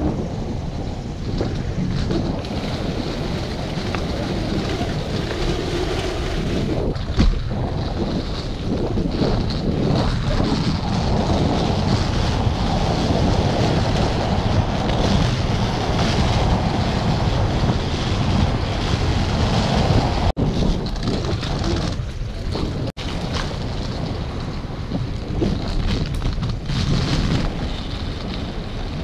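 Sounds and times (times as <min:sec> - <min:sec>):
skate wheels rolling on paving: 0:00.0 - 0:29.0
wind buffeting microphone: 0:00.0 - 0:29.0.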